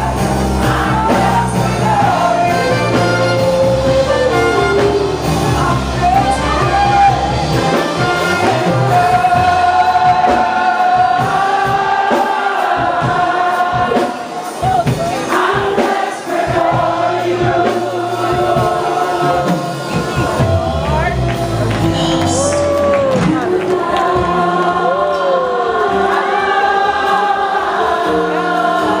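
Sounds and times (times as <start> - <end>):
gospel choir singing: 0.0 - 29.0
instrumental accompaniment: 0.0 - 29.0.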